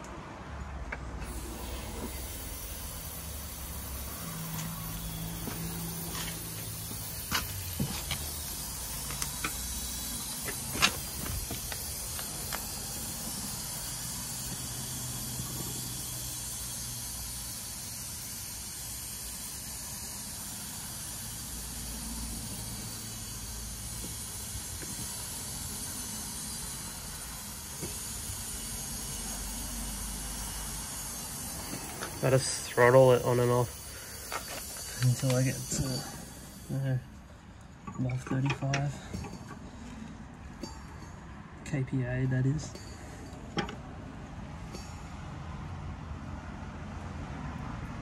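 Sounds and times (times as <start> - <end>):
gas hissing through hoses: 0.7 - 41.2, 42.6 - 45.2.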